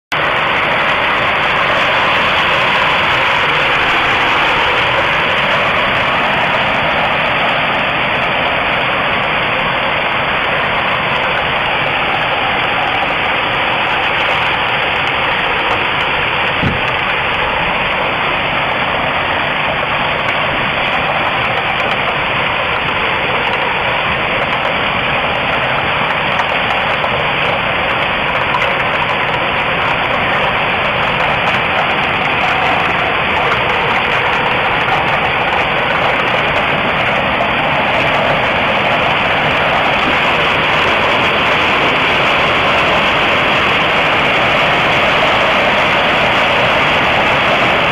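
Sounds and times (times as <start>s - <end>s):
hail and heavy rain on rooftops: 0.1s - 47.9s.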